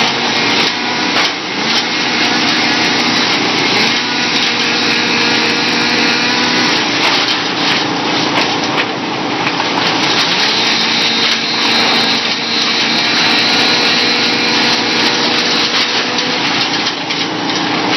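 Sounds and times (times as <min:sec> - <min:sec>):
cutter rushing whir: 0:00.0 - 0:07.4, 0:09.9 - 0:16.9
wood chipper engine running: 0:00.0 - 0:17.9.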